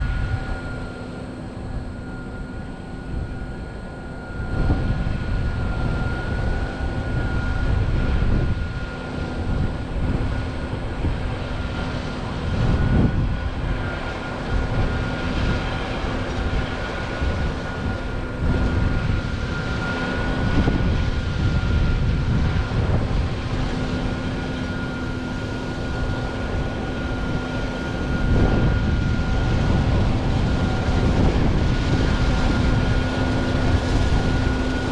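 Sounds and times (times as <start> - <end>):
combine harvester engine drone: 0.0 - 34.9
high whine: 0.0 - 34.9.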